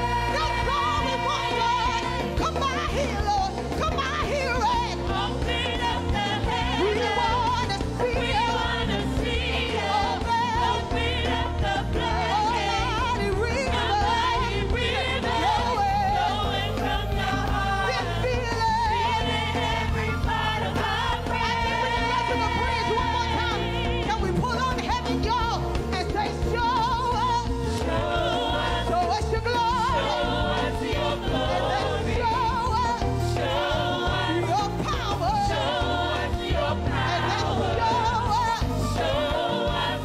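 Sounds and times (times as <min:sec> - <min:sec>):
low musical accompaniment: 0:00.0 - 0:40.0
women singing gospel together: 0:00.0 - 0:40.0.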